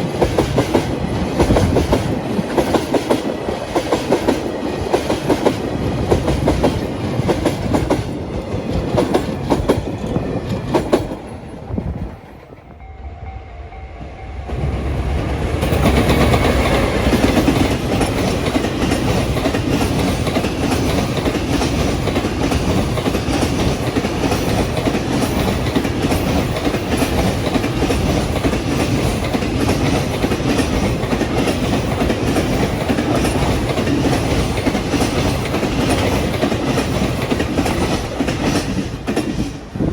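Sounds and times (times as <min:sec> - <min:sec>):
train wheels clacking: 0:00.0 - 0:12.8, 0:14.5 - 0:39.9
train rolling noise: 0:00.0 - 0:39.9.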